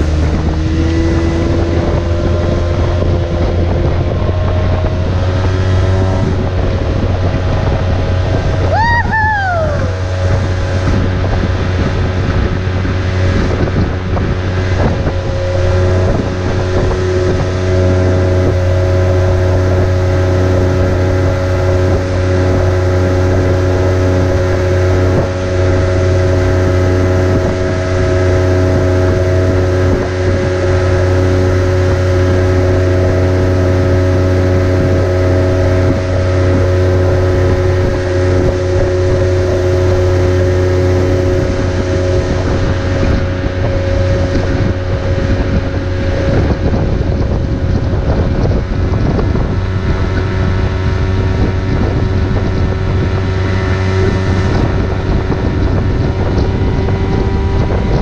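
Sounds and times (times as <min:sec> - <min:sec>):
outboard motor running: 0:00.0 - 0:58.0
water rushing past hull: 0:00.0 - 0:58.0
wind buffeting microphone: 0:00.0 - 0:58.0.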